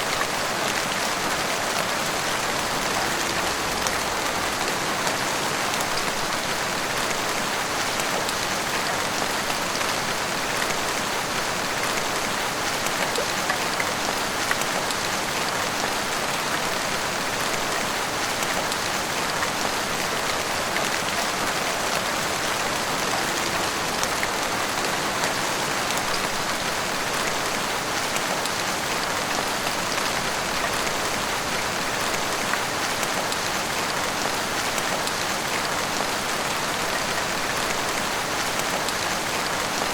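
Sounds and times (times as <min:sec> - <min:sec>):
heavy rain pouring: 0:00.0 - 0:39.9
rain drops ticking on rooftops: 0:00.0 - 0:39.9.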